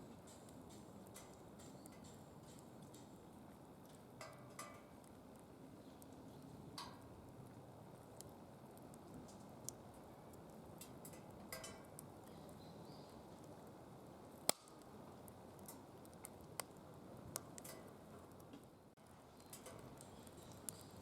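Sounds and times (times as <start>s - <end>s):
firewood crackling: 0.0s - 21.0s.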